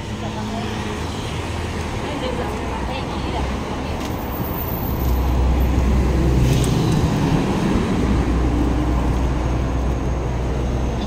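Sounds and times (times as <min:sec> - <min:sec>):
cars and bus driving past: 0:00.0 - 0:11.0.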